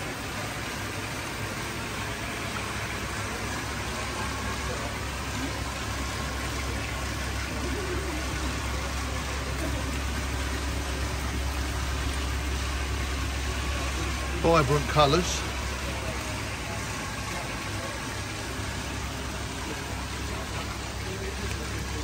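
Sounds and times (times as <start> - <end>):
low hum of tank pumps: 0.0 - 22.0
running splashing water: 0.0 - 22.0.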